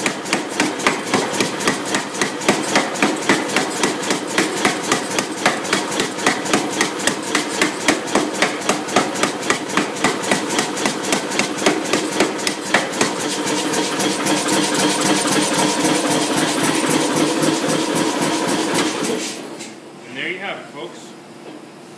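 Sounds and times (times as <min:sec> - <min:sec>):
hammer motor hum: 0:00.0 - 0:19.2
power hammer blows on steel: 0:00.0 - 0:19.2.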